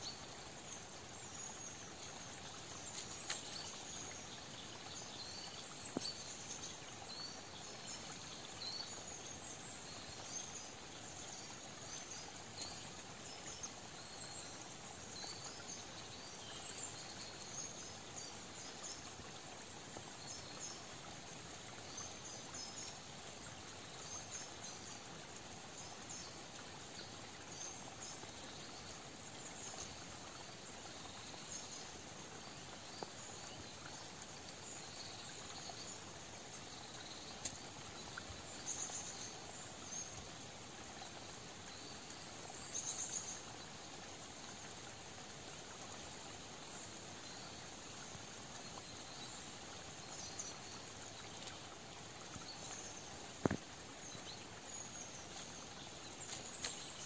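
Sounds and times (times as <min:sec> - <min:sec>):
steady soft hiss: 0:00.0 - 0:57.0.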